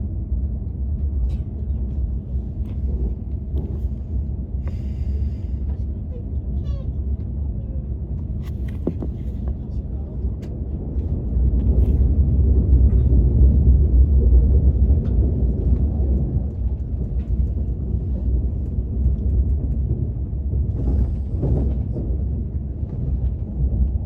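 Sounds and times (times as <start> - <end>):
train rumble inside cabin: 0.0 - 24.0.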